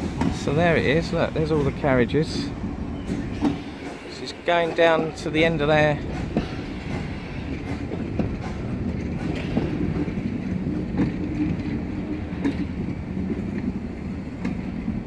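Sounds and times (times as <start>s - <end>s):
train coaches rolling on track: 0.0s - 15.0s
wheels clicking over rails: 0.0s - 15.0s.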